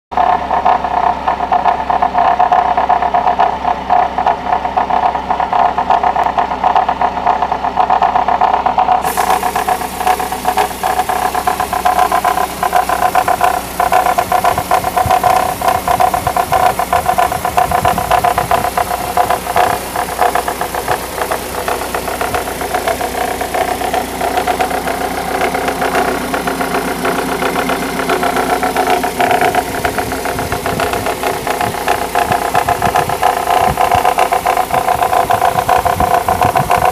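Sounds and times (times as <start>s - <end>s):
car engine running: 0.0s - 36.9s
fast ticking rattle: 0.1s - 36.9s.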